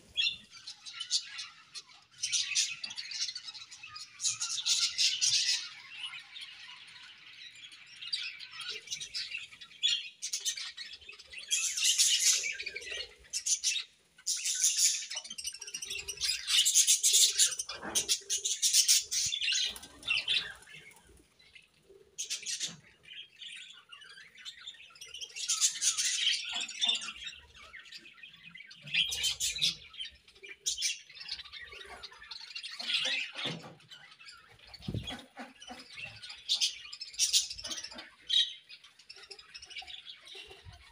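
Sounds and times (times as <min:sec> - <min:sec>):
budgerigars chirping: 0:00.1 - 0:21.0, 0:22.2 - 0:40.9.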